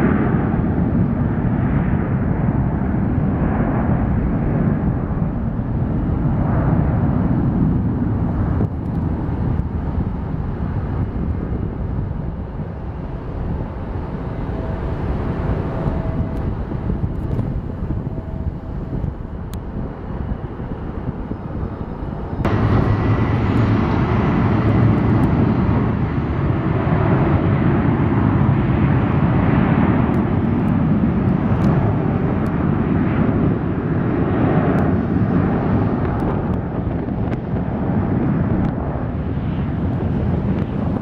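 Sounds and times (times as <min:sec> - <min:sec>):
jet engine roar: 0:00.0 - 0:41.0
wind on microphone: 0:00.0 - 0:41.0.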